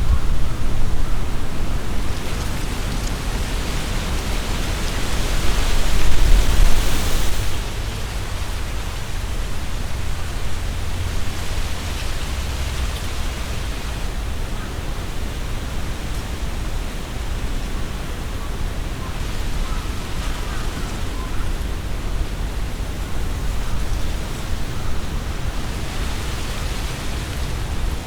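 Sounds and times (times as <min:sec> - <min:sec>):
leaves rustling: 0:00.0 - 0:28.0
strong wind through trees: 0:00.0 - 0:28.0.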